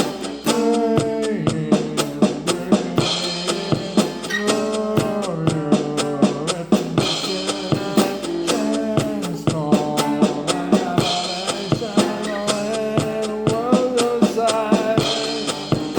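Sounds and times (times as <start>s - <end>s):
band playing music: 0.0s - 15.9s.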